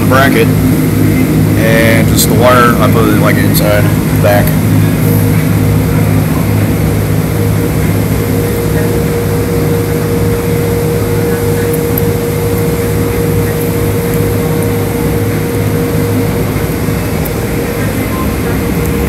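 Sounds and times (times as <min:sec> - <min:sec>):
car wash machinery running: 0:00.0 - 0:19.0
motors and pumps humming: 0:00.0 - 0:19.0
steady tone: 0:00.0 - 0:19.0.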